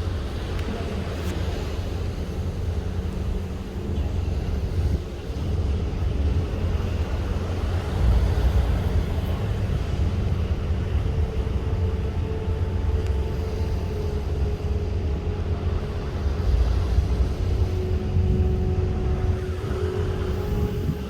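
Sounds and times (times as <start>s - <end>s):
faint hum: 0.0s - 21.0s
ship underway: 0.0s - 21.0s
wind rumble: 0.0s - 21.0s.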